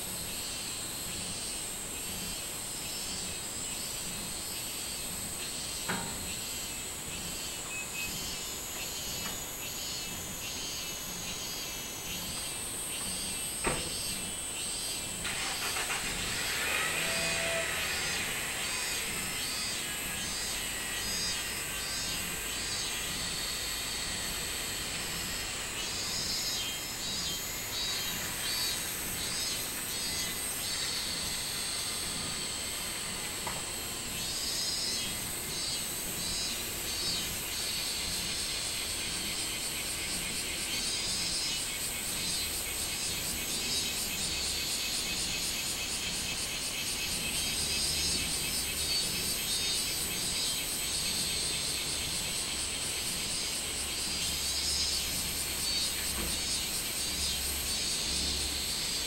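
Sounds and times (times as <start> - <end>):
cicadas pulsing high notes: 0.0 - 59.0
steady high insect drone: 0.0 - 59.0.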